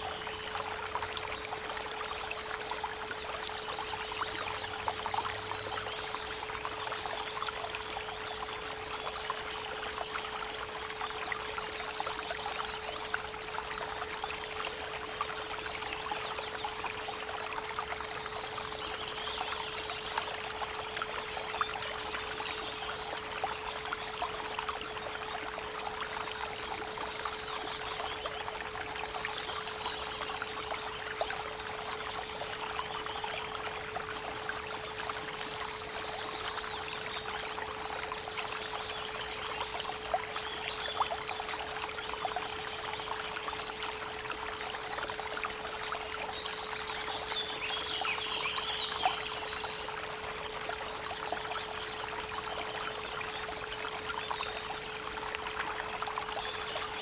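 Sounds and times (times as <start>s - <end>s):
babbling creek: 0.0s - 57.0s.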